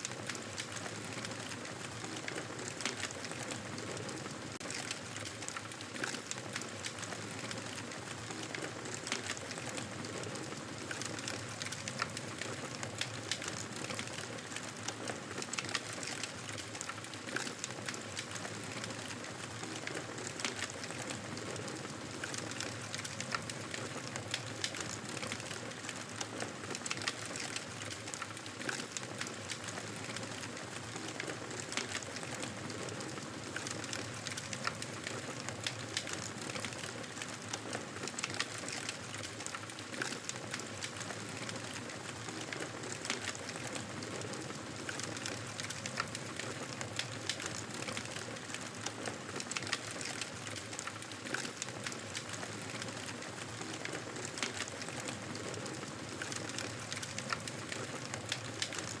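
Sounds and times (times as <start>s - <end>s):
wood crackling and popping: 0.0s - 59.0s.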